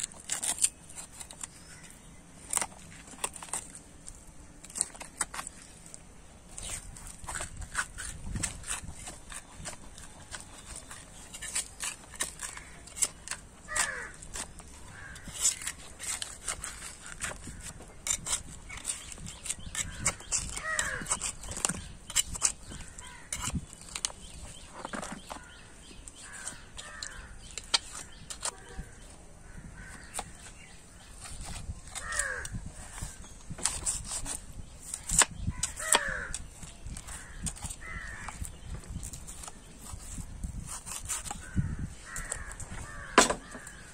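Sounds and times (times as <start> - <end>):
knife scraping against bone: 0.0 - 29.1, 29.9 - 43.8
birds calling: 0.0 - 43.9.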